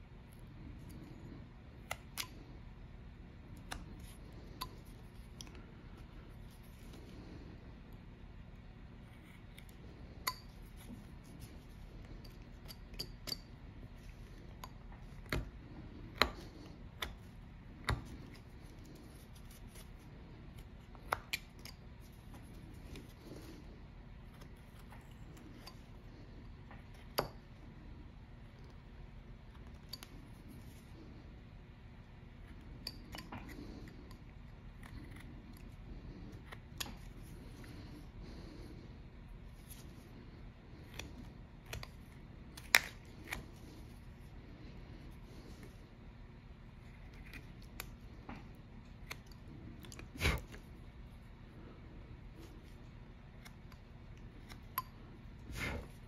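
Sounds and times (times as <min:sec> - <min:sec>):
knife carving wood: 0:00.2 - 0:27.8, 0:28.4 - 0:38.4, 0:39.4 - 0:45.8, 0:46.8 - 0:51.2, 0:52.4 - 0:56.0.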